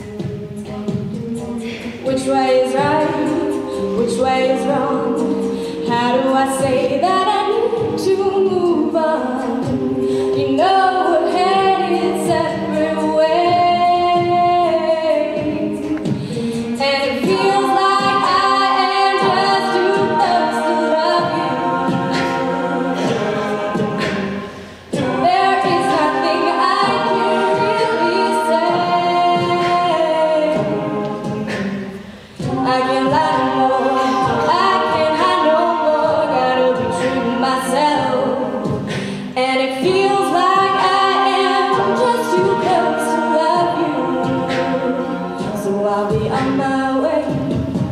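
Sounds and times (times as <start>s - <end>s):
a cappella choir singing: 0.0s - 47.9s
steady beat: 0.0s - 47.9s.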